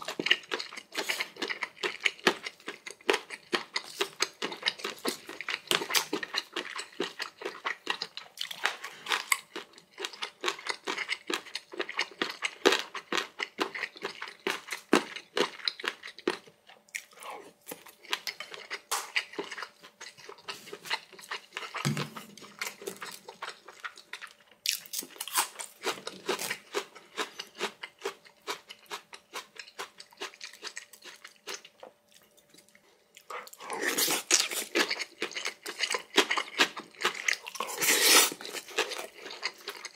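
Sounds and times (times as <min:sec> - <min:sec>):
chewing food: 0:00.0 - 0:39.9.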